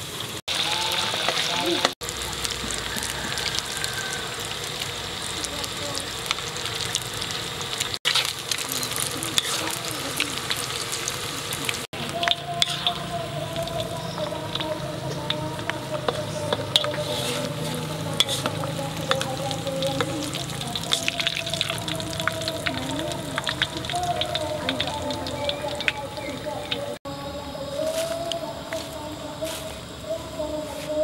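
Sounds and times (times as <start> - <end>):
insects deep-frying in hot oil: 0.0 - 31.0.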